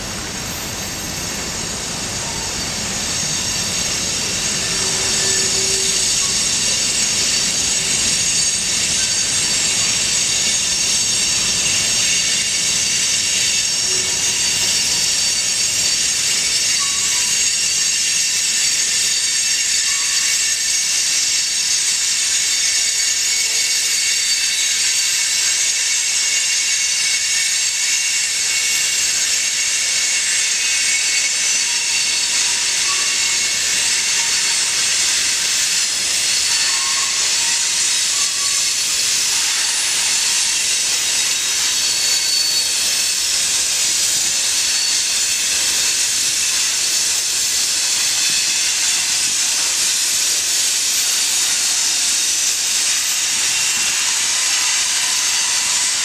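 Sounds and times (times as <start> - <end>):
train wheels rushing on track: 0.0 - 56.0.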